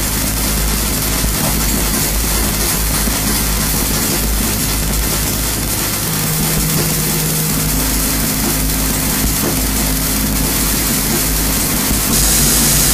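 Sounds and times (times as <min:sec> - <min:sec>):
harsh electronic noise: 0:00.0 - 0:12.9
low hums: 0:00.0 - 0:12.9.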